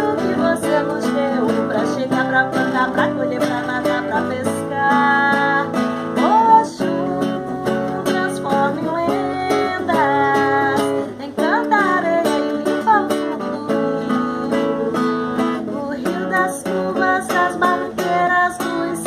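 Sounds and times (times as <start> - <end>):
guitar strumming: 0.0 - 19.0
woman singing: 0.0 - 19.0.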